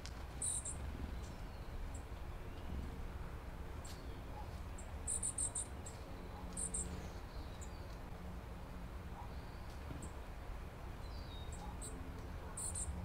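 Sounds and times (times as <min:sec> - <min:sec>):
birds chipping: 0:00.0 - 0:13.0.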